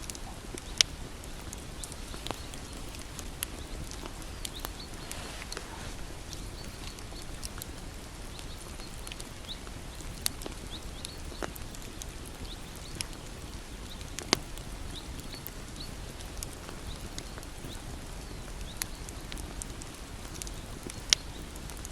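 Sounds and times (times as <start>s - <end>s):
campfire crackling and popping: 0.0s - 21.9s
low steady rush: 0.0s - 21.9s.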